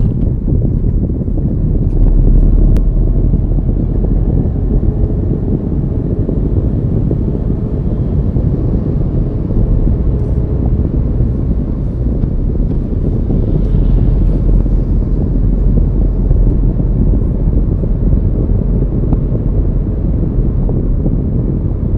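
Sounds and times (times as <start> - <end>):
car engine: 0.0 - 21.9
tyre noise on road: 0.0 - 21.9.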